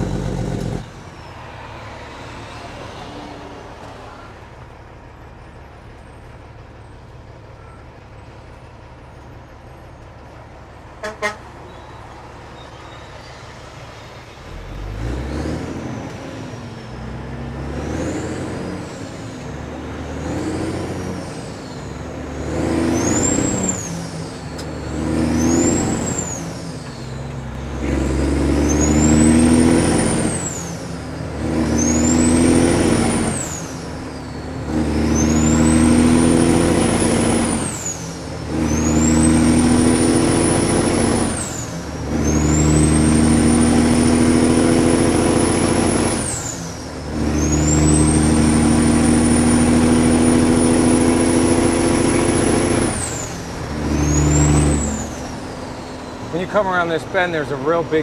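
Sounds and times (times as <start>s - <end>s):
diesel truck engine accelerating: 0.0s - 58.0s.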